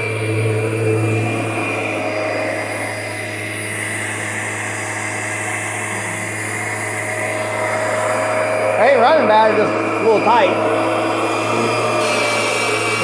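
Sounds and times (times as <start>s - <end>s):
upright vacuum cleaner humming: 0.0s - 13.0s.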